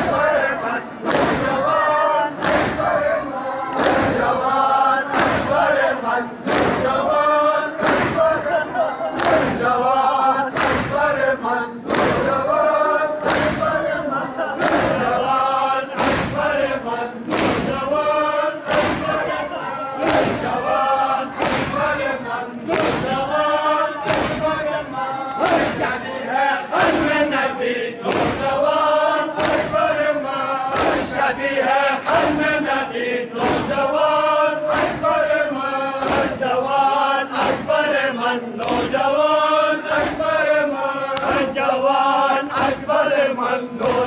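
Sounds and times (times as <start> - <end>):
crowd of men chanting: 0.0 - 44.0.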